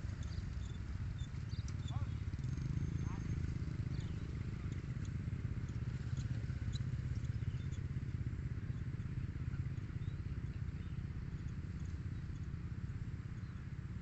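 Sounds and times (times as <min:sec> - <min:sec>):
faint bird chirps: 0:00.1 - 0:13.8.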